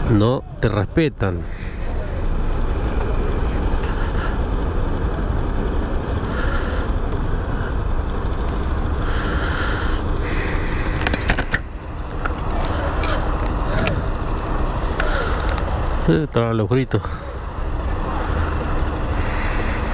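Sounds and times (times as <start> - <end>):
motorcycle engine rumbling: 0.0 - 19.9.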